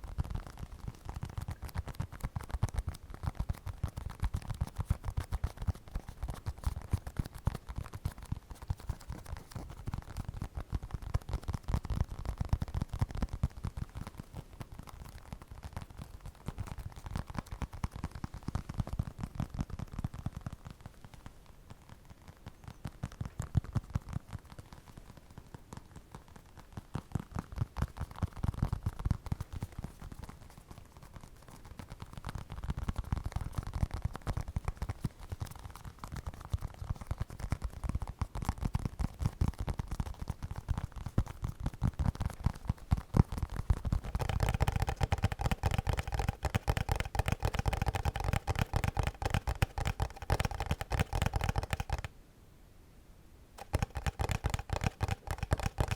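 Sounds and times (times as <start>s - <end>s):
fingertips tapping and scratching: 0.0s - 52.1s, 53.6s - 55.9s.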